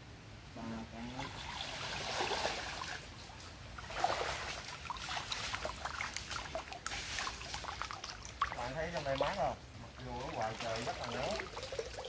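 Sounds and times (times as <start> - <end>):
water splashing in a creek: 1.0 - 12.0.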